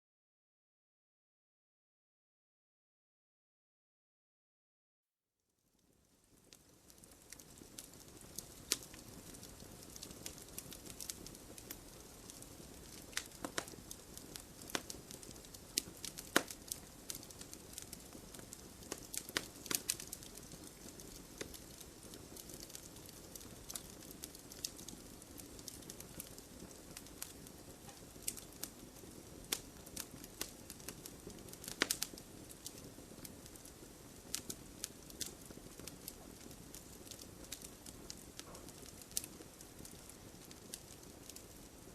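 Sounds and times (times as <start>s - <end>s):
burning wood crackling and popping: 5.8s - 41.9s
campfire flames rushing: 6.4s - 41.7s.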